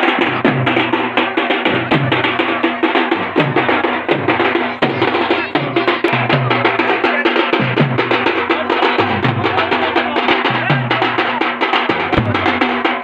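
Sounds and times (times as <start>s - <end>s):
deep bass drum beats: 0.0s - 13.0s
sharp drum strokes: 0.0s - 13.0s.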